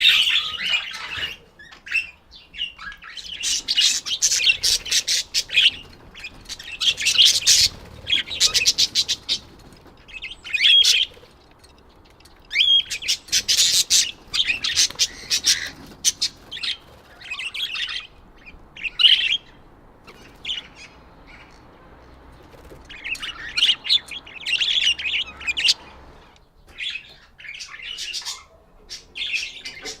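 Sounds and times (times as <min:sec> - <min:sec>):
budgerigars chirping: 0:00.0 - 0:30.0.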